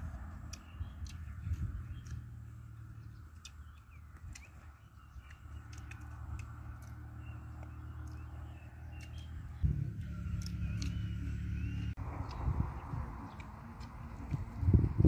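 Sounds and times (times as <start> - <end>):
low outdoor hum: 0.0 - 15.0
bird chirps: 0.5 - 14.4.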